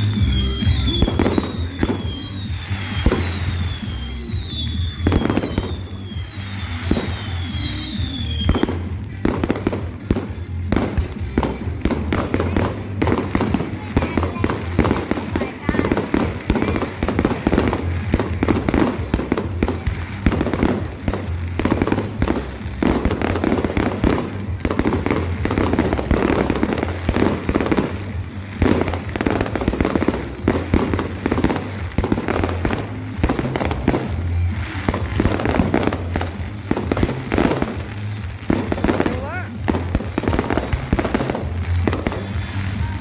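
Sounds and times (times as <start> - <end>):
music playing: 0.0 - 43.0
rapid crackling and popping: 0.0 - 43.0.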